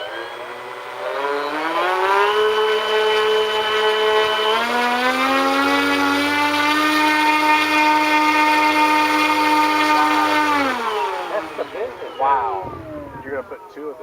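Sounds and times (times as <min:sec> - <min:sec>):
model airplane motor whine: 0:00.0 - 0:14.0.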